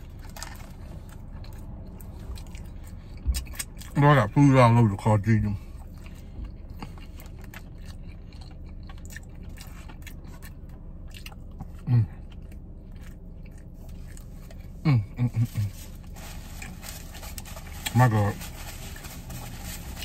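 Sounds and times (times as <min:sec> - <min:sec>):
crispy food crunching: 0:00.0 - 0:20.0.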